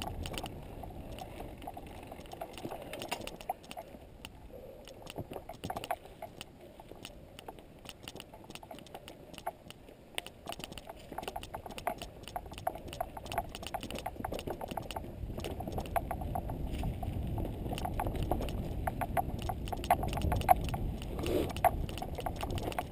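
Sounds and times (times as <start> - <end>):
bike rattling and clicking: 0.0 - 22.9
wind: 0.0 - 22.9.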